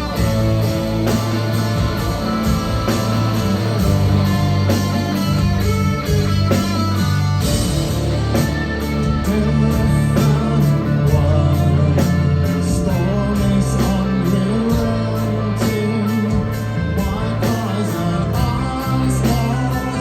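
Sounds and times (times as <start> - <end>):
drum and cymbal hits: 0.0 - 20.0
live rock band playing: 0.0 - 20.0.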